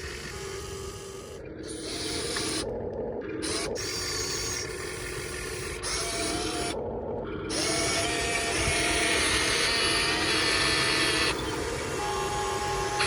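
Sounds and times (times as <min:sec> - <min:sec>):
electric motors and gears whirring: 0:00.0 - 0:13.0.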